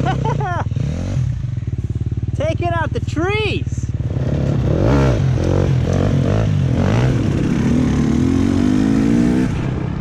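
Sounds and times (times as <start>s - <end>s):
dirt bike engine revving: 0.0s - 2.6s, 3.7s - 9.7s.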